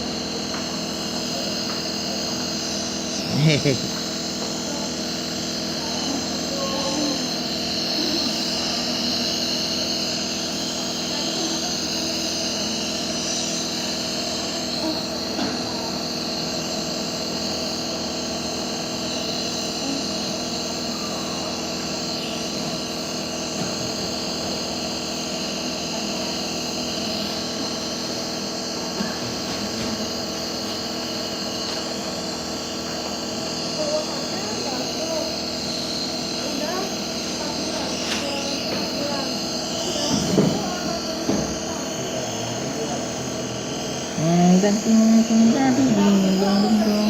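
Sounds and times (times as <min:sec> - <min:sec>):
nebulizer motor hum and hiss: 0:00.0 - 0:47.0.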